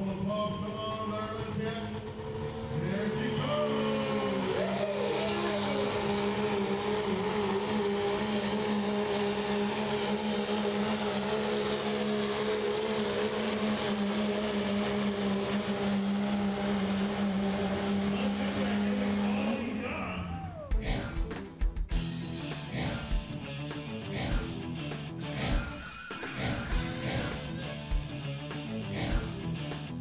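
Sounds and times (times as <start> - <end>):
diesel truck engine at high revs: 0.0 - 30.0.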